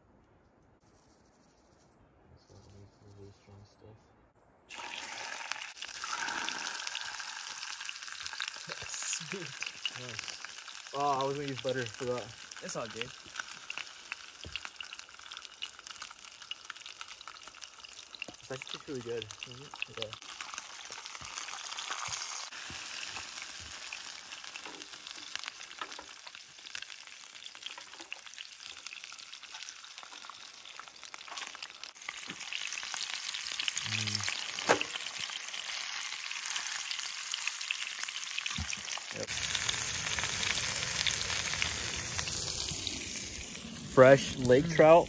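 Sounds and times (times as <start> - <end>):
fish sizzling in a pan: 4.7 - 44.9.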